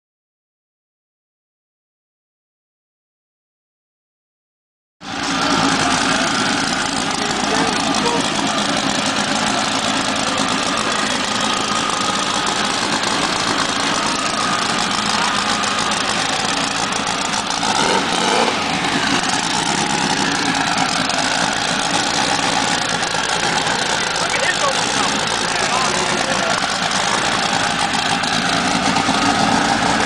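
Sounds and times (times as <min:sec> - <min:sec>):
car engine idling: 0:05.0 - 0:30.0.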